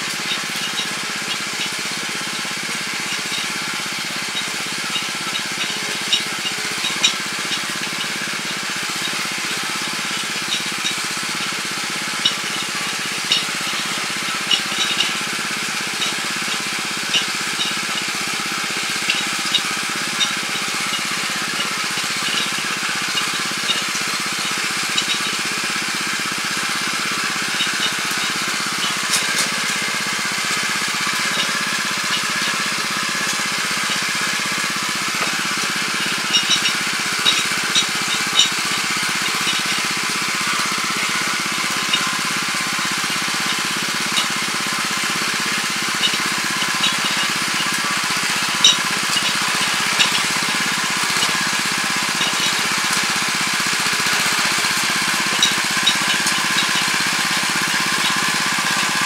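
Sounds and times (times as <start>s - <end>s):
tiller churning soil: 0.0s - 59.0s.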